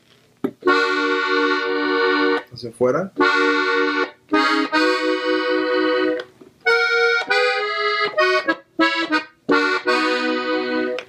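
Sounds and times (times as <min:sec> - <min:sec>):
button accordion playing: 0:00.6 - 0:02.5, 0:03.2 - 0:11.0.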